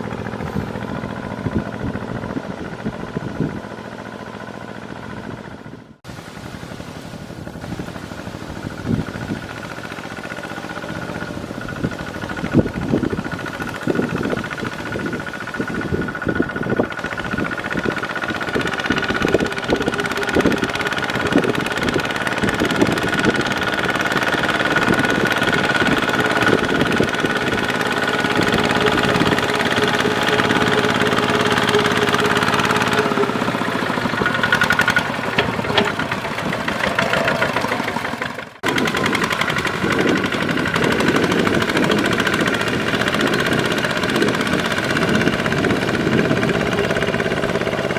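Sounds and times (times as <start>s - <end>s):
tractor diesel engine knocking: 0.0s - 6.0s, 7.2s - 47.9s.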